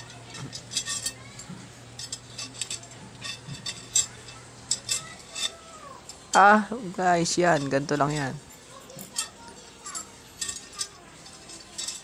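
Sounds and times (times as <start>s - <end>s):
metal spokes clinking: 0.0s - 12.0s.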